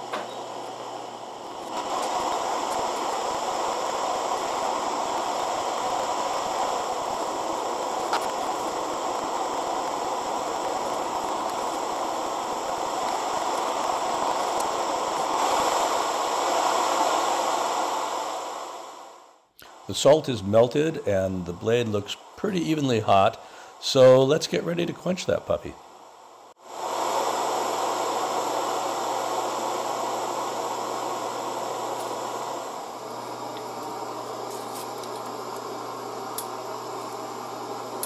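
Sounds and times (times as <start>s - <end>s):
torch flame roaring: 0.0s - 23.1s, 25.9s - 38.0s.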